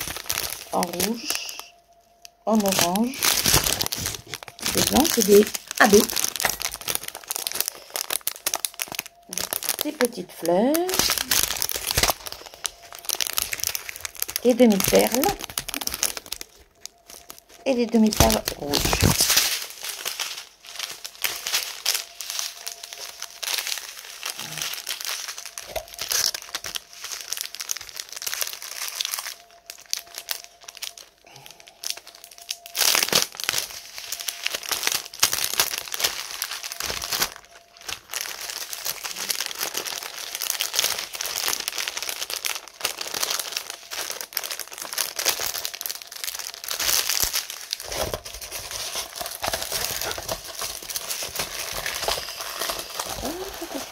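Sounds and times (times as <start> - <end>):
plastic packaging crinkling: 0.0 - 53.9.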